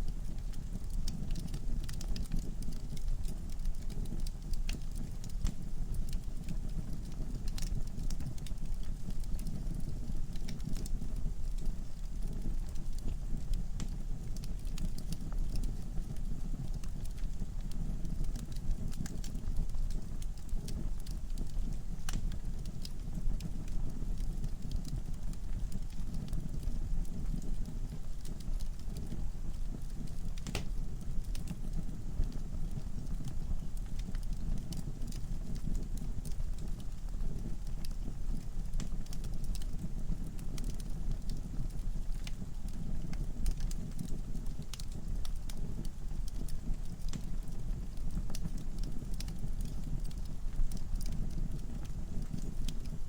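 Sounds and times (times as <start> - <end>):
fire flames rumbling: 0.0 - 53.0
logs crackling and popping: 0.0 - 53.0.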